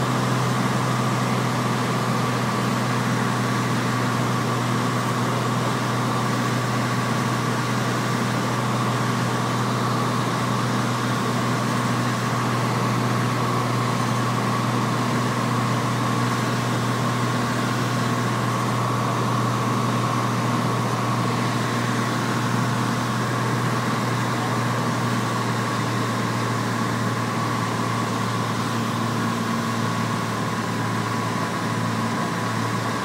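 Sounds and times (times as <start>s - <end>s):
thin steady whine: 0.0s - 33.0s.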